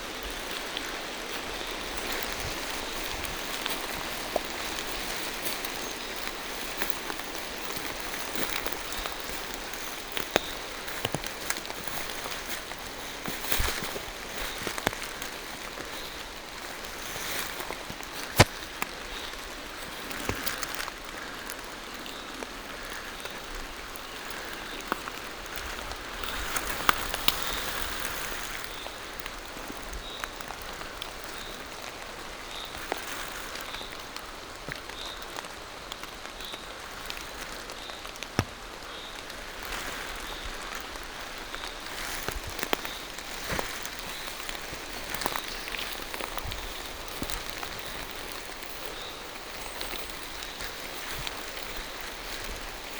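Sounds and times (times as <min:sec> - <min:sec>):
large raindrops tapping: 0:00.0 - 0:52.9
rain falling through trees: 0:00.0 - 0:52.9.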